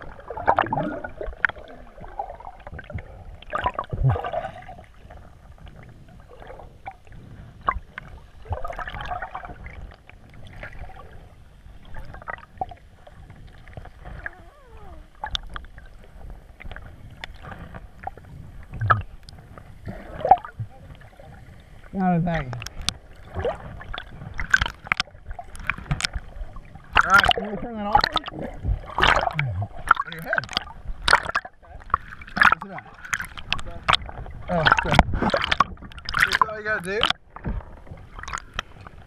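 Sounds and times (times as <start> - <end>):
muffled underwater sloshing: 0.0 - 39.0.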